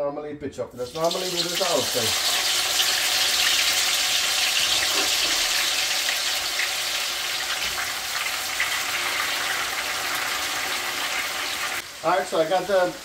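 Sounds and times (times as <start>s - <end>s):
peanuts sizzling in hot oil: 0.8s - 13.0s.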